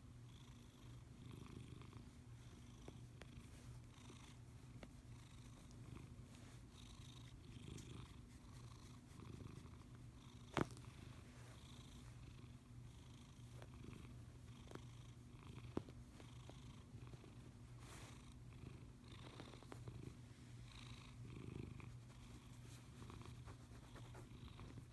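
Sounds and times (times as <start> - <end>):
cat purring: 0.3 - 24.9.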